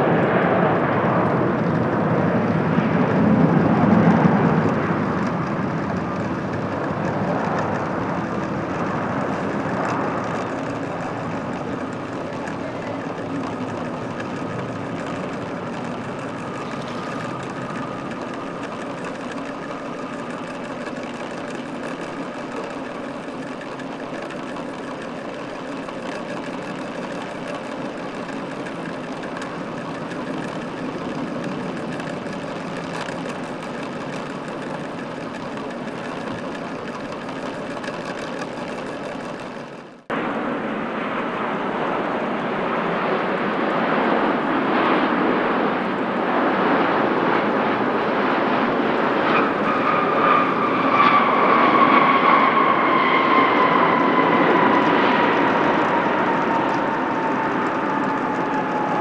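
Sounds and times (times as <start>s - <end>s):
jet engines running: 0.0s - 59.0s
rising jet roar: 0.0s - 59.0s.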